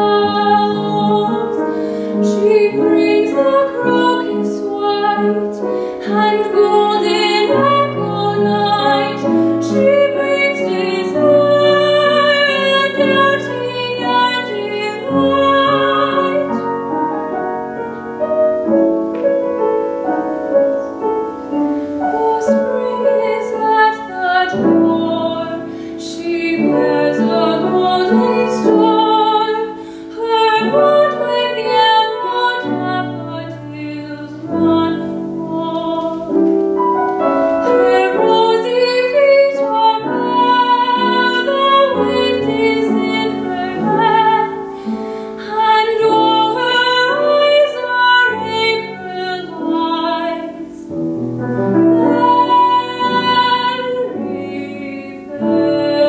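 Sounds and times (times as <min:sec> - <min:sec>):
woman singing operatically: 0:00.0 - 0:16.7, 0:22.1 - 0:36.4, 0:37.6 - 0:44.7, 0:45.4 - 0:50.9, 0:51.8 - 0:56.0
grand piano accompaniment: 0:00.0 - 0:56.0.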